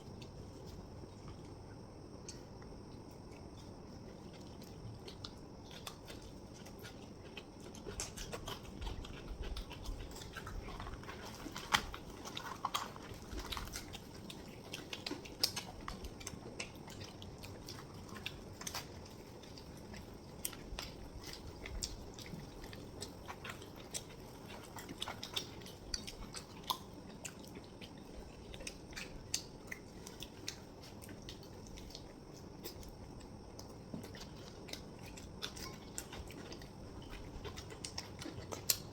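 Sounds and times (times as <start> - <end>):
chewing and mouth sounds: 0.0 - 38.9.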